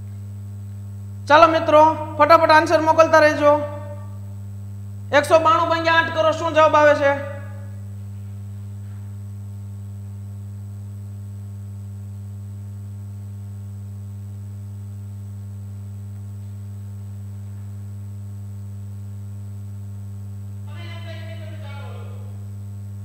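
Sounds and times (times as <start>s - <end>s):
faint high whine: 0.0s - 23.0s
low electrical hum: 0.0s - 23.0s.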